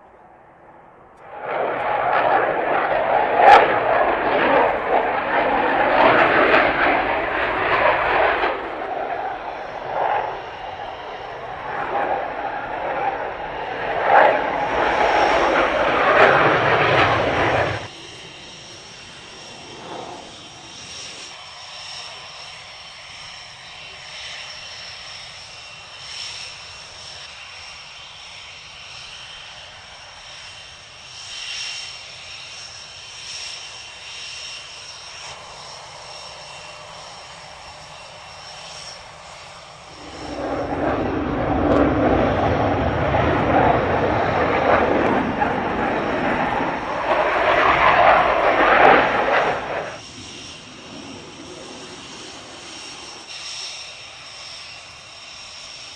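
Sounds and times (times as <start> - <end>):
jets passing overhead: 0.0 - 55.9.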